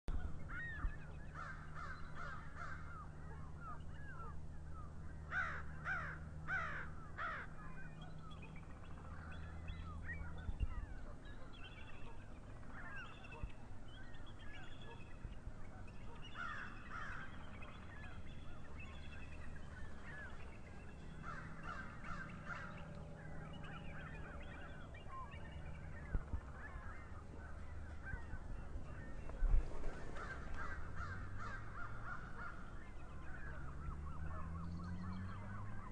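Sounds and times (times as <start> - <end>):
birds chirping and cawing: 0.1 - 35.9
low steady hum: 0.1 - 35.9.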